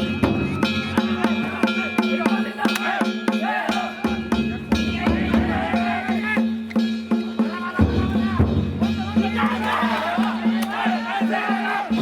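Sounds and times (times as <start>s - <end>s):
drum beating steady rhythm: 0.0s - 12.0s
voices calling: 0.0s - 12.0s.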